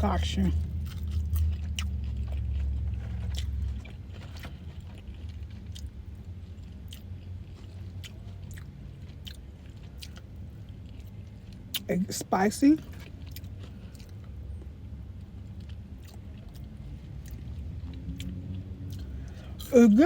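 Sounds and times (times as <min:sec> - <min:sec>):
chewing and biting food: 0:00.0 - 0:11.9, 0:12.8 - 0:19.7.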